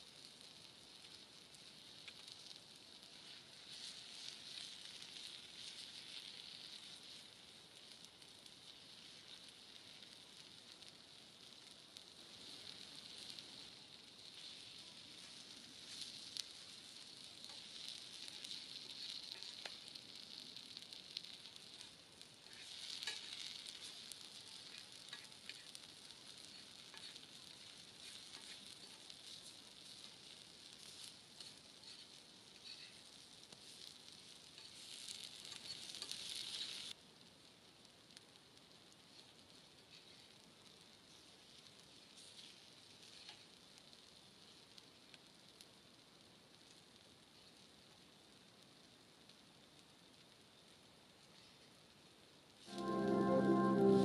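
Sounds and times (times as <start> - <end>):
chicken sizzling: 0.0 - 54.0.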